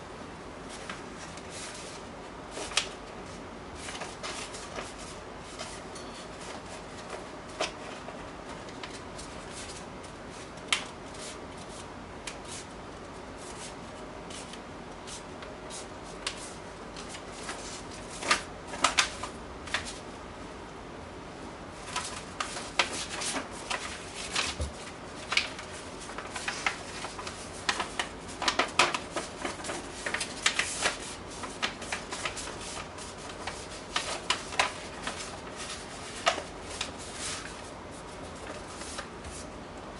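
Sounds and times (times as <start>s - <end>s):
paper folding rustles: 0.6s - 20.1s, 21.8s - 39.6s.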